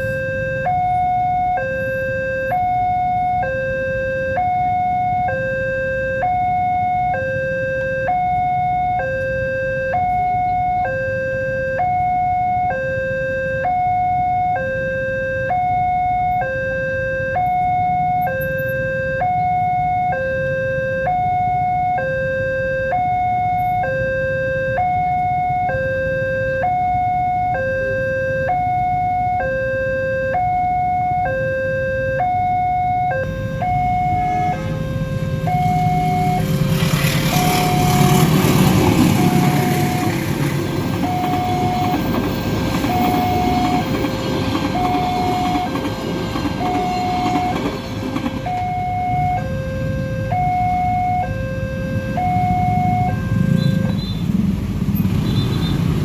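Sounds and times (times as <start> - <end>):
two-tone warning alarm: 0.0 - 55.9.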